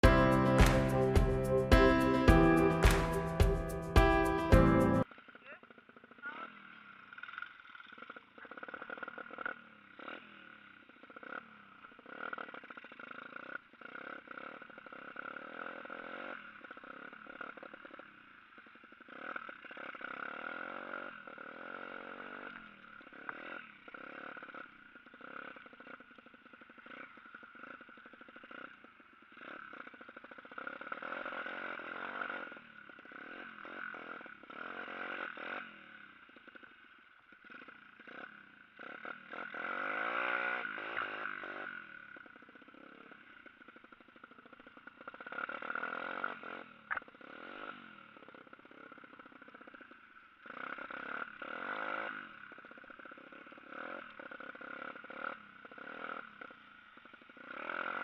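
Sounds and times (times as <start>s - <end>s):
dirt bike engine revving: 0.0s - 5.1s, 6.0s - 18.0s, 19.0s - 36.0s, 37.4s - 49.1s, 50.4s - 56.5s, 57.3s - 58.0s.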